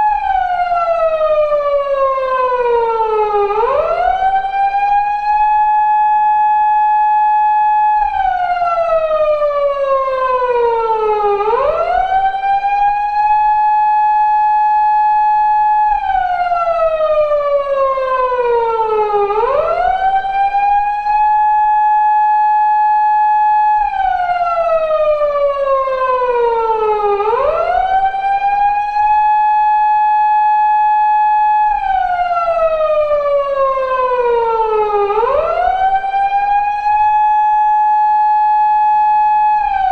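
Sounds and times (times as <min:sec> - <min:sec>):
police car siren wailing: 0:00.0 - 0:39.9.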